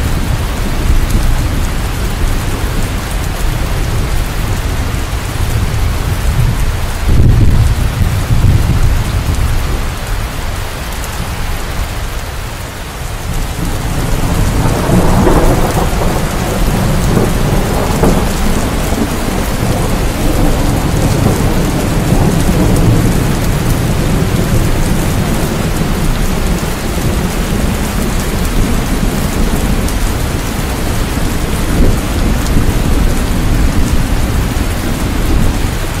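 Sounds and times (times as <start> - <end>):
thunder rumbling: 0.0 - 11.4, 13.0 - 36.0
heavy rain on grass and puddles: 0.0 - 36.0.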